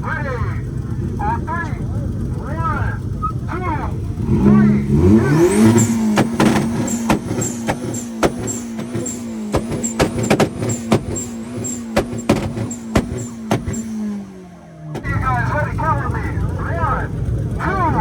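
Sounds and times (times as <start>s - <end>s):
car engine at high rev: 0.0s - 18.0s
exhaust popping and banging: 0.0s - 18.0s.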